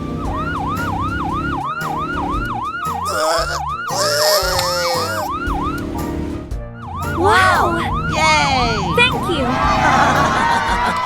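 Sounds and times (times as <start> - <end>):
siren yelping: 0.0 - 5.9, 6.9 - 11.0
background music: 0.0 - 11.0.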